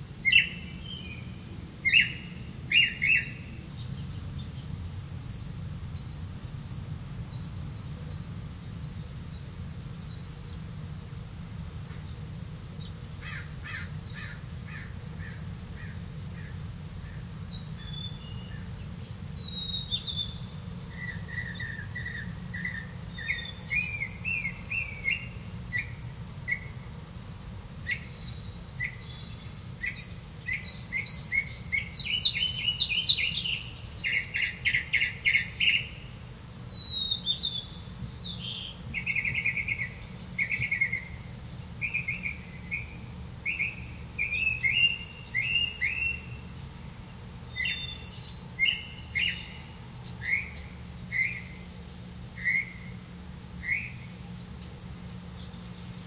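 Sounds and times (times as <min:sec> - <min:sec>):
nestlings begging with high chirps: 0:00.0 - 0:11.0, 0:11.7 - 0:56.0
steady low hum: 0:00.0 - 0:56.0.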